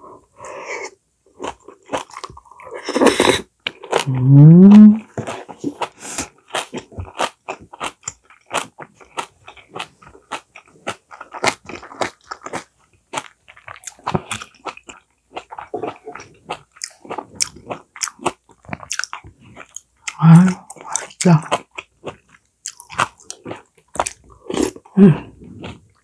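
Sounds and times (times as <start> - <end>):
person chewing and crunching food: 0.2 - 26.0.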